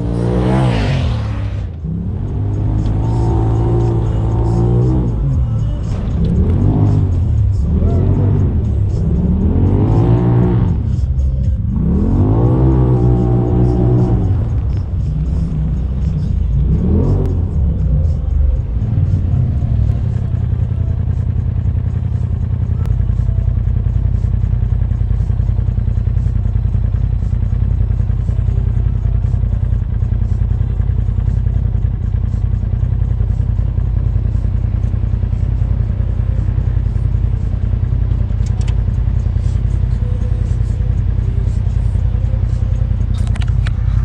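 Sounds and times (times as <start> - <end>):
off-road vehicle deep rumble: 0.0 - 44.0.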